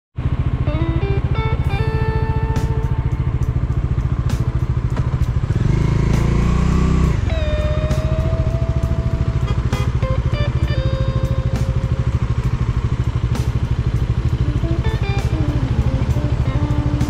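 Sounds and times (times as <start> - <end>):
motorcycle engine thumping and revving: 0.2 - 17.0
music with plucked melody: 0.6 - 17.0.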